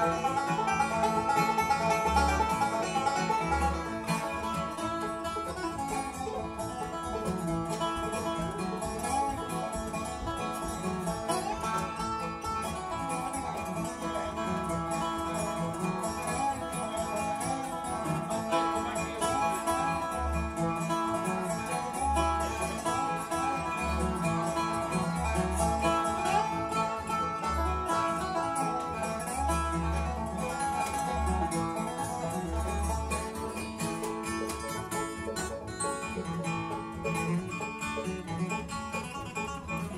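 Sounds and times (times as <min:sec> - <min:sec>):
picked banjo: 0:00.0 - 0:39.9
resonator guitar: 0:00.0 - 0:39.9
strummed acoustic guitar: 0:00.0 - 0:39.9.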